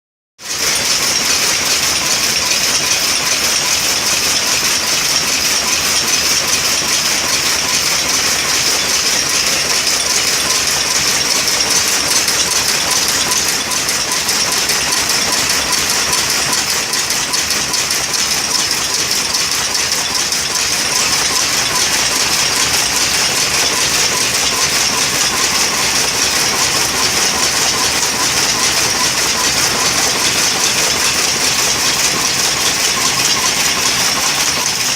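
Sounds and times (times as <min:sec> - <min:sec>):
power loom clattering: 0:00.4 - 0:34.9.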